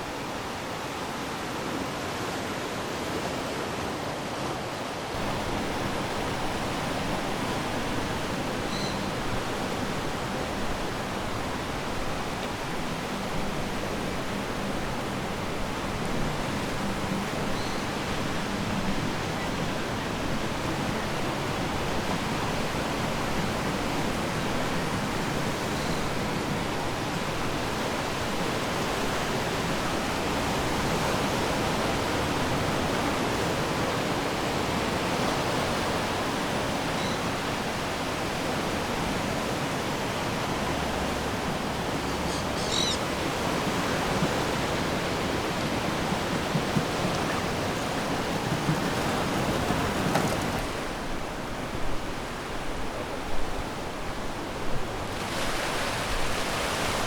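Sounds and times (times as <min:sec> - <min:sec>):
surf washing on shore: 0:00.0 - 0:57.0.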